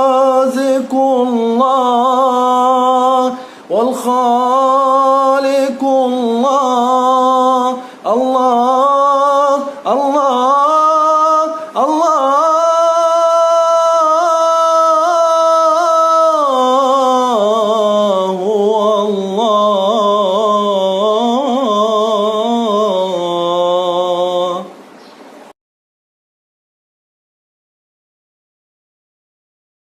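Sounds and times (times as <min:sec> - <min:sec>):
man singing unaccompanied: 0:00.0 - 0:24.9.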